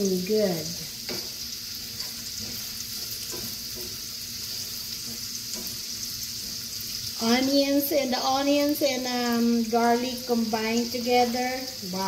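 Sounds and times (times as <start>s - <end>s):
onions sizzling in oil: 0.0s - 12.0s
spatula stirring ticks: 0.0s - 12.0s.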